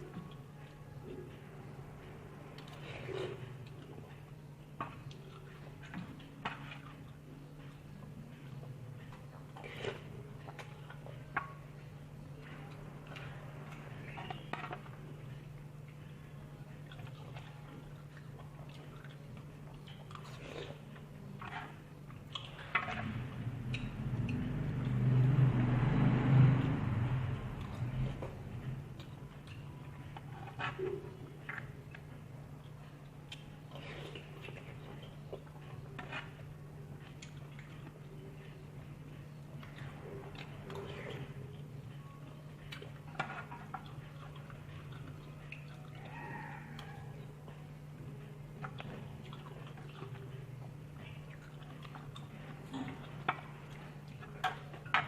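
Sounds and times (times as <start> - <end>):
eating mouth noises: 0.0 - 55.0
person chewing food: 0.0 - 55.0
steady low hum: 0.0 - 55.0.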